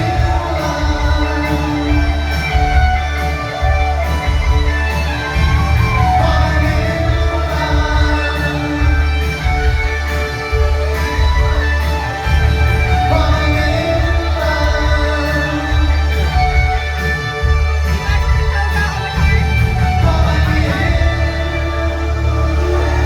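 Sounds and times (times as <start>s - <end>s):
drums with cymbal hits: 0.0s - 23.0s
electric guitar: 0.0s - 23.0s
heavy bass line: 0.0s - 23.0s.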